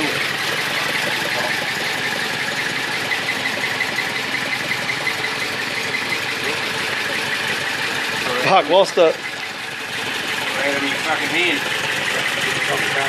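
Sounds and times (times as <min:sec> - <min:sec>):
four-cylinder engine running: 0:00.0 - 0:13.0.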